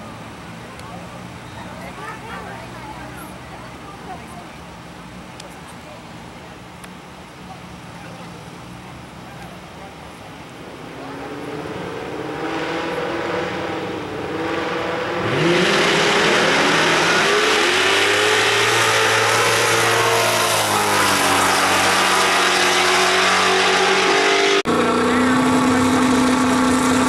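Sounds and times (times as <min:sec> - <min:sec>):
drag car engines accelerating: 0:00.0 - 0:27.0.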